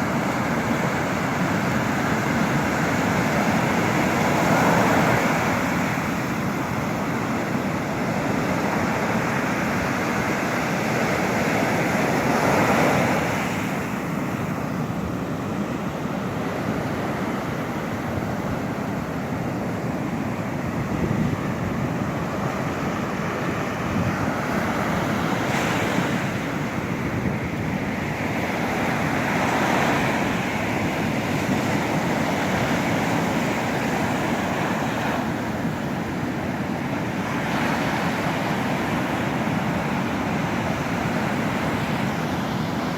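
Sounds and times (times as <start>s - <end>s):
ocean surf breaking: 0.0s - 42.9s.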